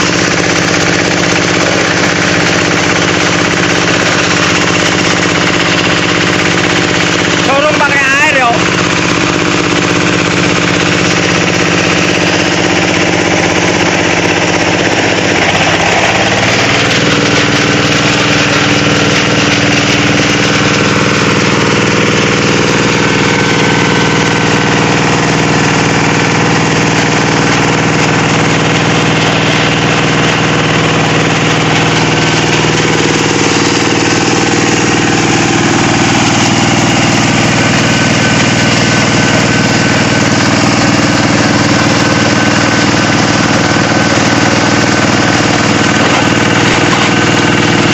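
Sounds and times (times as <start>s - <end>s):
shredder machine humming: 0.0s - 47.9s.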